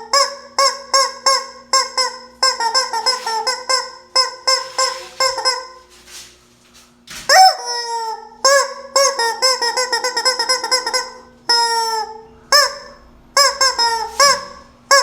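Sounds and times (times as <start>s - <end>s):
rubber chicken toy squealing: 0.1s - 5.7s, 7.3s - 15.0s.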